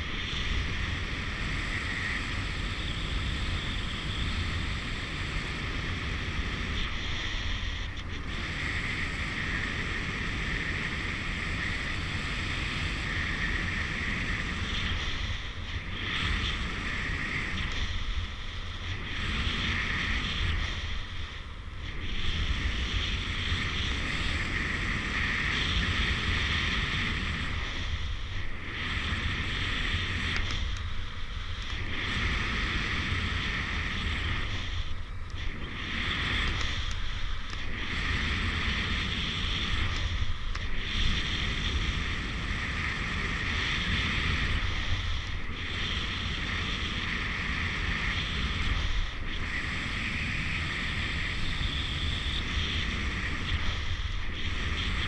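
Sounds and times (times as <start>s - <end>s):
wind roar on microphone: 0.0s - 55.0s.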